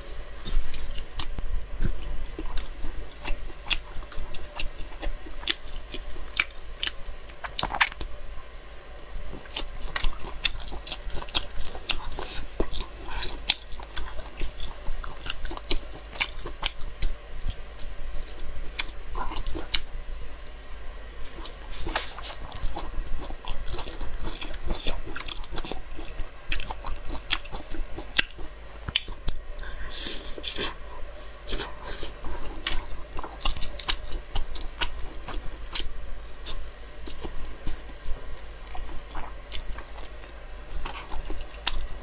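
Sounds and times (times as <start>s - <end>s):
chewing with wet mouth clicks: 0.5s - 8.1s, 9.0s - 19.9s, 21.4s - 42.0s.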